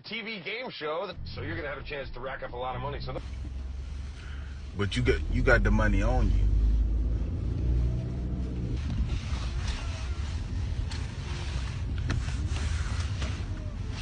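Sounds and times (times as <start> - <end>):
car engine and road rumble: 1.2 - 14.0.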